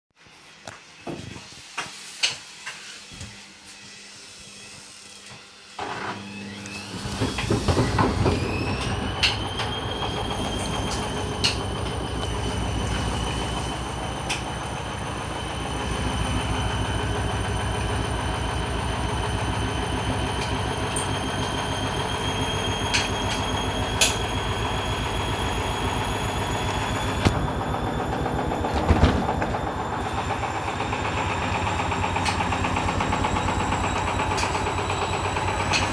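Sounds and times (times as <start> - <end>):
washing machine motor whine: 2.6 - 35.9.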